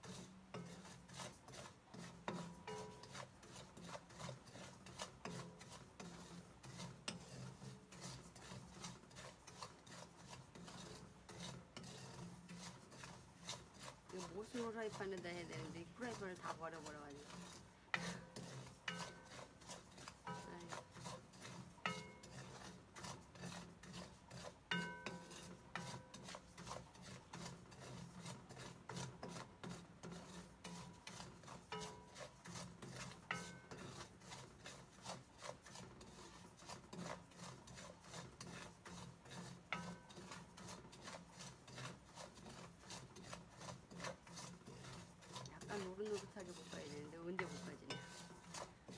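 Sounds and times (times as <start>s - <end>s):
spatula scraping salt in pan: 0.0s - 48.9s.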